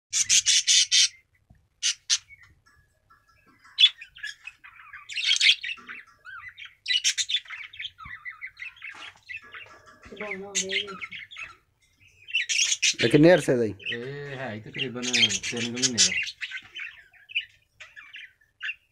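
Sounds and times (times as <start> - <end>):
chirps and squawks: 0.1 - 18.9
cockatiels screeching: 0.2 - 1.2, 1.8 - 2.4, 3.7 - 11.6, 12.3 - 18.8.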